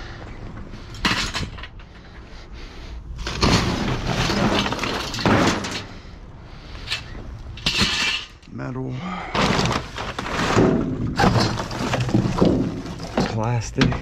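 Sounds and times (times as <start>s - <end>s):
junk clattering and crashing: 0.0s - 2.3s, 3.1s - 8.5s, 9.2s - 14.0s.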